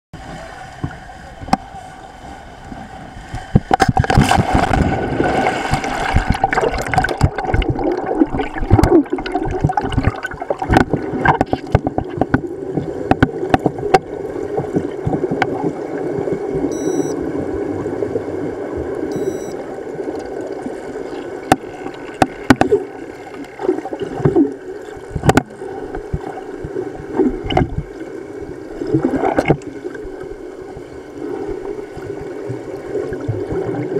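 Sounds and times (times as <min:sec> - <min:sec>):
underwater bubbling and gurgling: 0:00.2 - 0:33.9.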